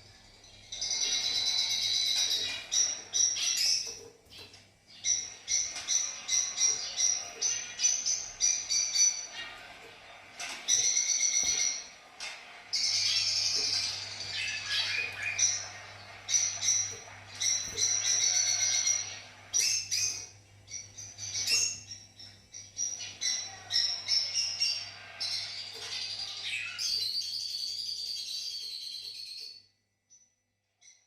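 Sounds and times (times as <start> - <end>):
lovebirds chirping and chattering: 0.0 - 29.1.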